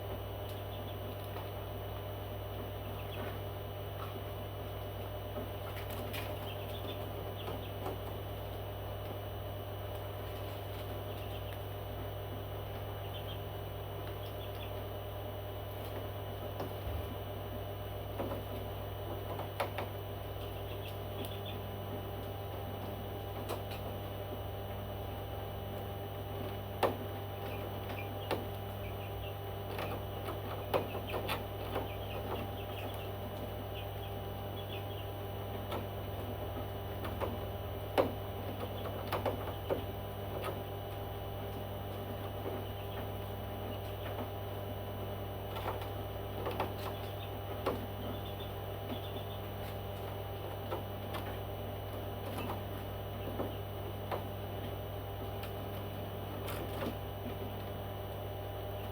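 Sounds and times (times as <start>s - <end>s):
electrical hum: 0.0s - 58.9s.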